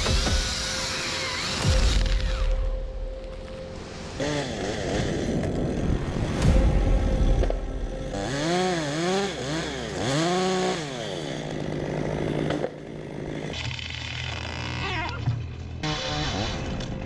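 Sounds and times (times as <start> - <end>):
chainsaw engine revving: 0.0 - 2.8, 3.4 - 6.6, 7.6 - 14.9, 15.8 - 17.0.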